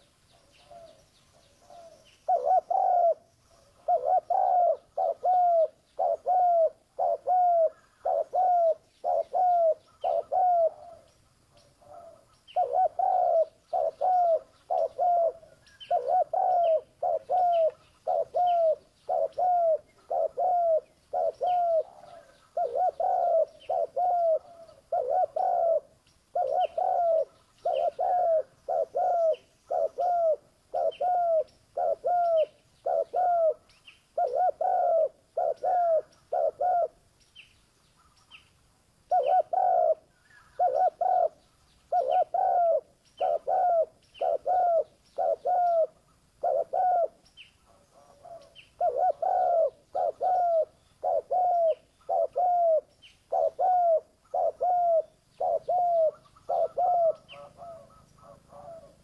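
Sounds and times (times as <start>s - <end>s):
dove cooing: 0.0s - 37.1s, 39.1s - 59.0s.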